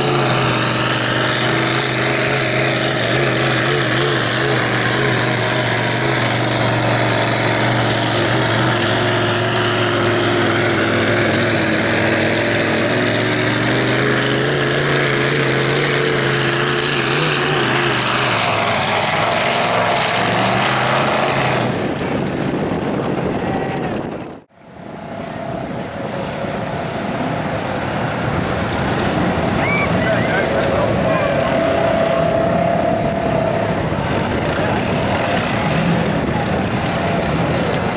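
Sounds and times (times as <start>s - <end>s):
truck engine running loud: 0.0s - 37.9s.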